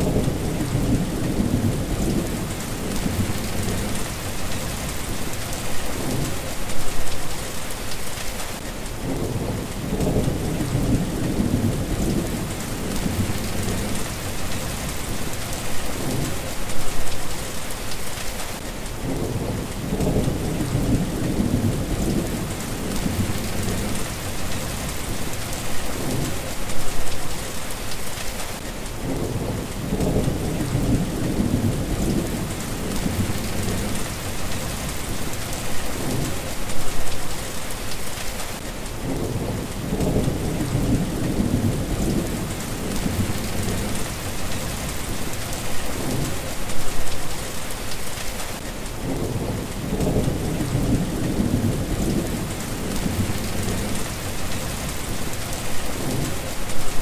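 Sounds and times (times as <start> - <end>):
thunder rumbles: 0.0 - 7.6, 9.0 - 17.5, 19.0 - 27.2, 29.0 - 37.5, 39.0 - 47.5, 49.0 - 57.0
steady rain: 0.0 - 57.0.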